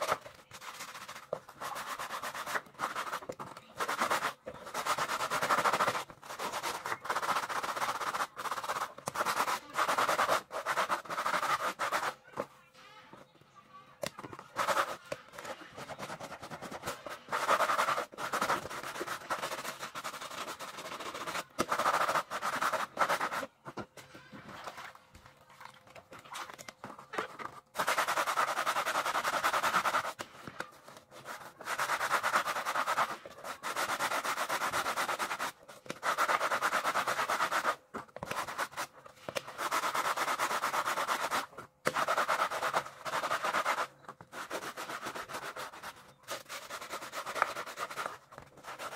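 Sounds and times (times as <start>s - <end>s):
brush scrubbing fabric: 0.0s - 12.2s, 14.5s - 23.5s, 27.8s - 30.2s, 31.1s - 38.9s, 39.5s - 48.9s.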